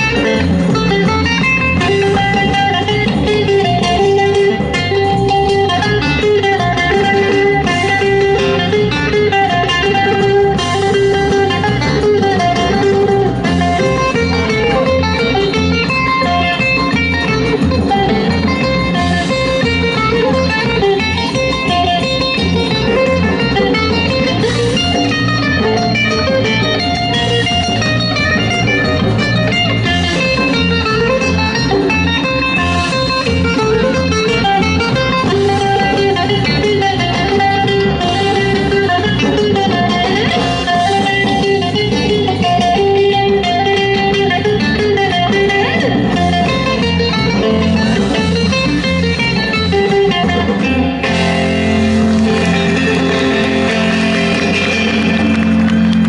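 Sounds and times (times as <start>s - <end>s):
bouzouki plucked melody: 0.0s - 56.0s
electric bass guitar: 0.0s - 56.0s
steady beat: 0.0s - 56.0s.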